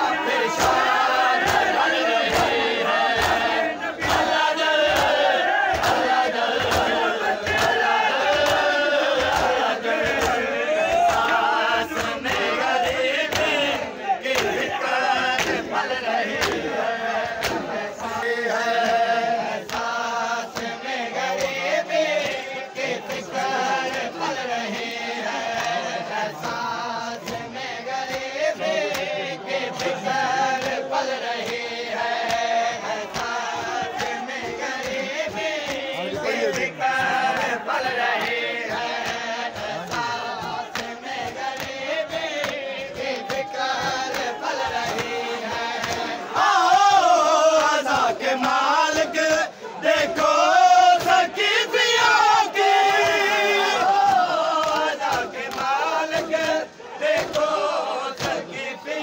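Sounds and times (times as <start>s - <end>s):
hands slapping chests: 0.0s - 51.2s, 53.8s - 58.7s
men chanting together: 0.0s - 59.0s.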